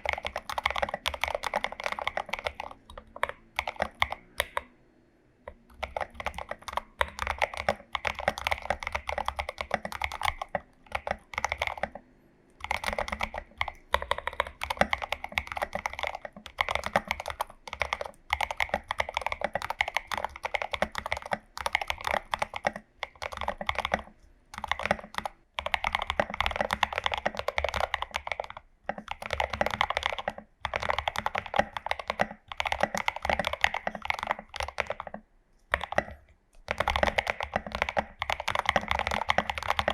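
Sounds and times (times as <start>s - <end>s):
mechanical keyboard typing: 0.0s - 4.7s, 5.5s - 12.0s, 12.6s - 39.9s.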